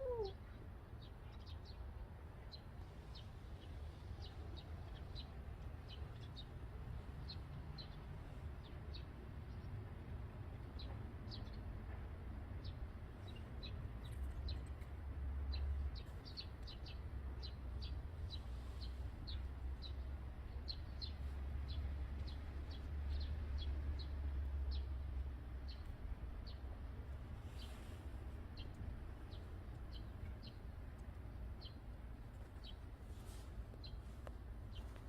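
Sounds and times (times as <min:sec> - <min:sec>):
small birds chirping: 0:00.0 - 0:09.8, 0:15.5 - 0:26.8, 0:27.4 - 0:35.0.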